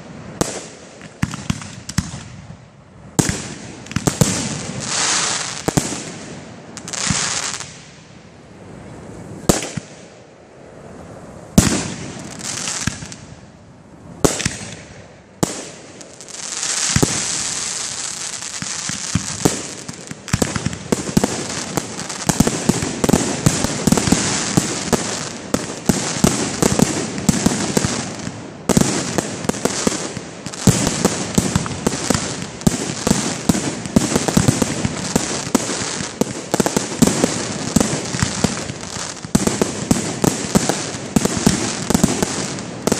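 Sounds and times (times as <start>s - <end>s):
rapid firework pops and crackle: 0.0s - 2.6s, 3.2s - 8.0s, 9.4s - 10.0s, 11.6s - 13.3s, 14.2s - 42.9s
firework crackling: 0.0s - 8.2s, 11.5s - 13.4s, 14.1s - 42.9s.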